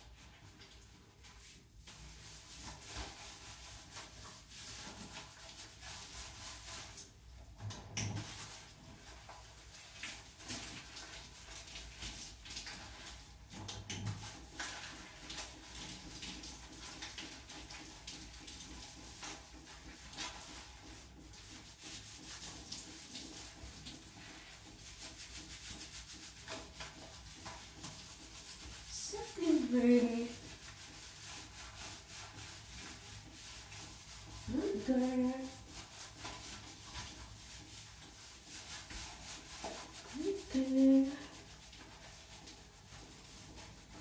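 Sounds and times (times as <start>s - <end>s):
gloved hands scrubbing wet fur: 0.0s - 44.0s.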